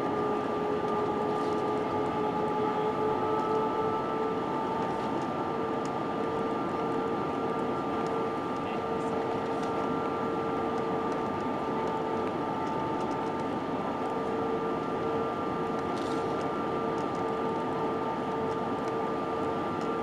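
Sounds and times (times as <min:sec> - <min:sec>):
airflow rush in cabin: 0:00.0 - 0:20.0
jet engines humming: 0:00.0 - 0:20.0.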